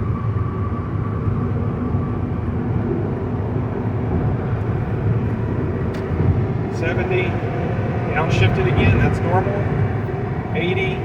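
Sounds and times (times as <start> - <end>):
car cabin road noise: 1.3 - 11.0.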